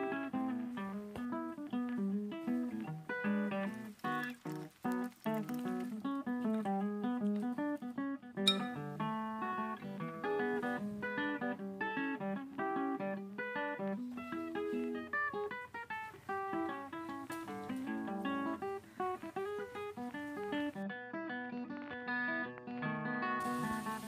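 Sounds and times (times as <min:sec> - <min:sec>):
plucked acoustic guitar melody: 0:00.0 - 0:24.0.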